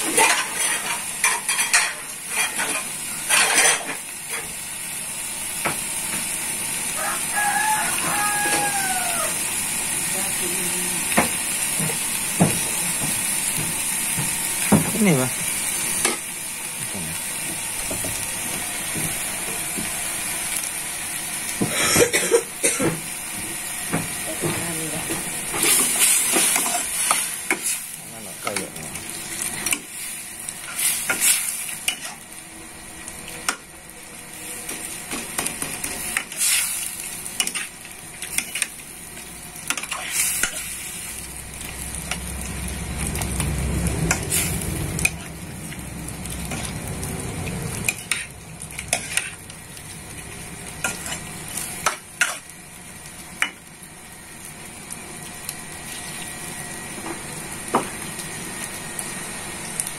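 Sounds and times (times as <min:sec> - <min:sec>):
seafood sizzling in a wok: 0:00.0 - 0:59.9.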